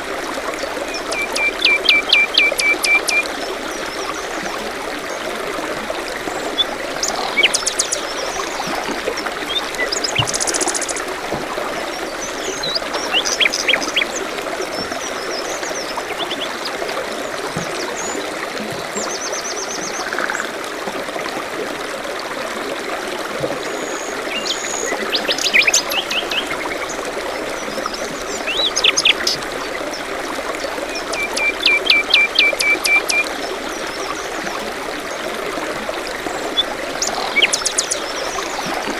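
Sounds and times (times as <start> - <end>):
stream trickling over stones: 0.0 - 38.9
songbirds calling and trilling: 0.6 - 5.3, 6.2 - 11.1, 11.8 - 20.5, 23.7 - 35.3, 36.3 - 38.8.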